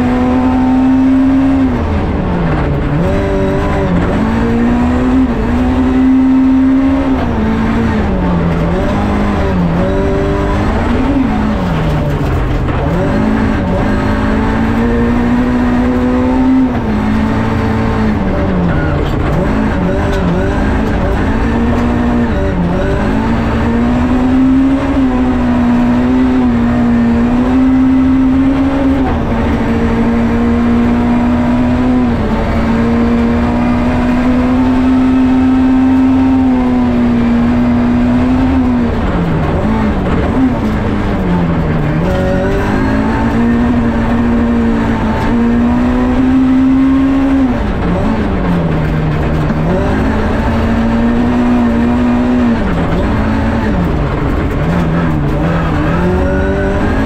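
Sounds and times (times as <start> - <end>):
low road rumble: 0.0 - 57.0
rally car engine revving: 0.0 - 57.0.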